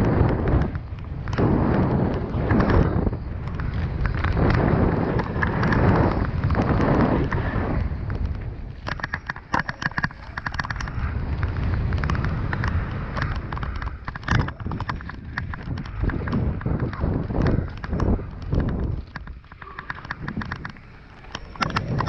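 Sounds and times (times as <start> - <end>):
bike clacking and rattling on rocks: 0.0 - 22.0
bike tyres crunching over stones: 0.0 - 22.0
wind rushing on microphone: 0.0 - 22.0.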